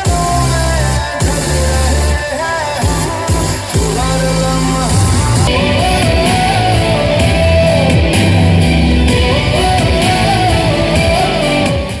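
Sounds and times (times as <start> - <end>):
song with guitar and heavy bass: 0.0 - 12.0.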